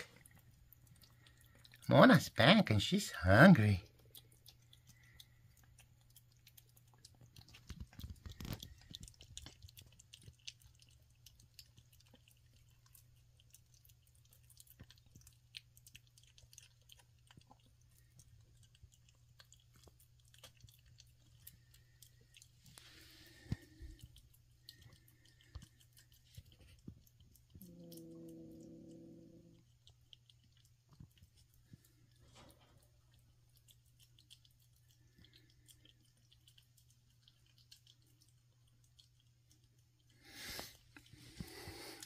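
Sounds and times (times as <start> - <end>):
kitten chewing food: 0.0 - 42.0.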